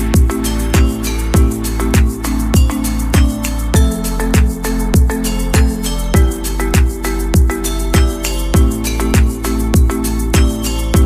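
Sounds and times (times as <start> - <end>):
background music with kick drums: 0.0 - 11.0.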